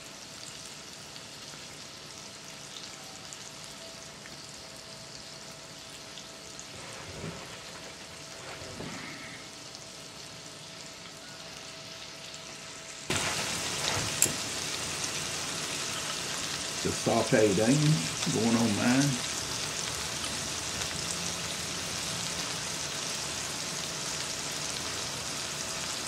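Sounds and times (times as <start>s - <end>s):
burger patties sizzling: 0.0s - 26.0s.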